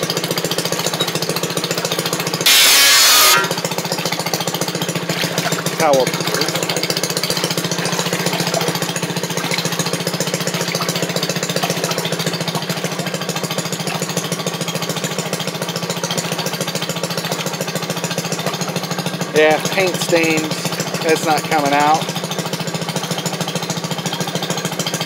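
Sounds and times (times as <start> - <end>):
two-stroke engine puttering: 0.0 - 25.0.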